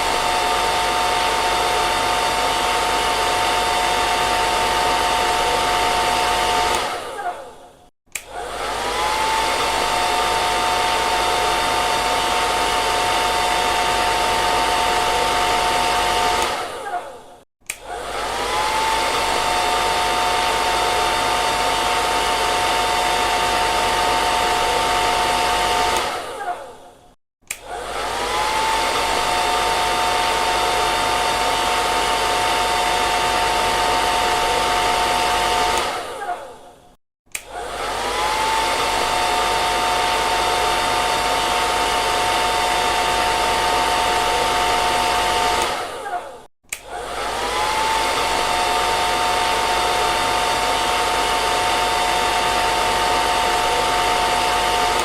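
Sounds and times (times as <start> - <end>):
hair dryer blowing: 0.0 - 55.0.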